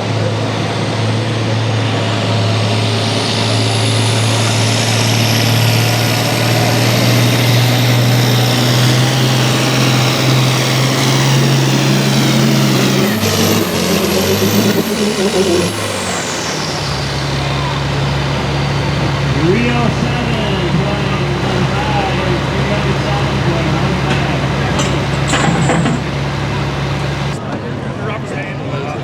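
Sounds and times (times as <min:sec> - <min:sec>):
tractor engine running flat out: 0:00.0 - 0:27.4
engine popping and crackling: 0:00.1 - 0:27.4
high-pitched whine: 0:01.3 - 0:27.4.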